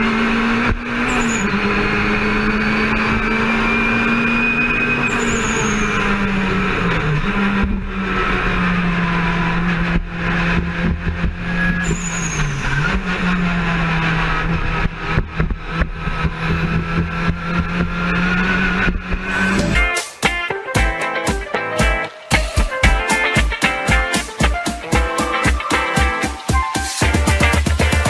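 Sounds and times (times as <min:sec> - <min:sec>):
race car engine running: 0:00.0 - 0:26.4, 0:27.0 - 0:28.0.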